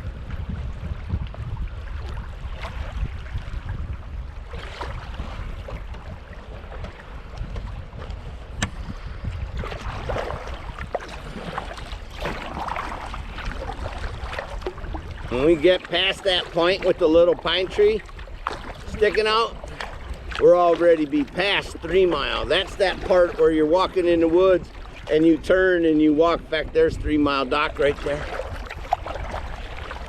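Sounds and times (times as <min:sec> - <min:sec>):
paddle splashing in water: 0:00.0 - 0:30.0
wind rumble on microphone: 0:00.0 - 0:30.0.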